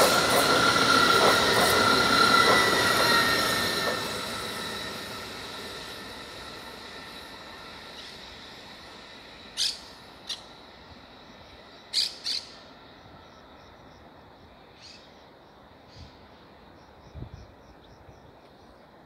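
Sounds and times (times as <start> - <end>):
high-speed train running: 0.0 - 19.0.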